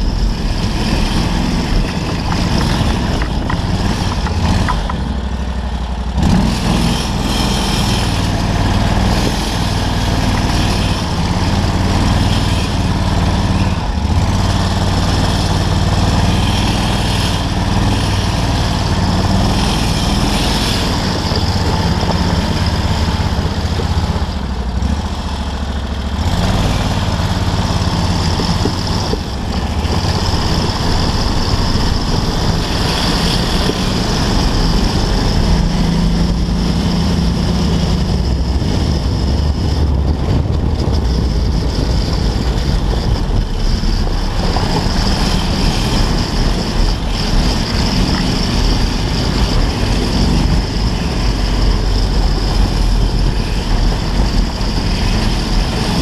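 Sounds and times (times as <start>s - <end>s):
buggy engine under throttle: 0.0s - 56.0s
road and wind noise: 0.0s - 56.0s.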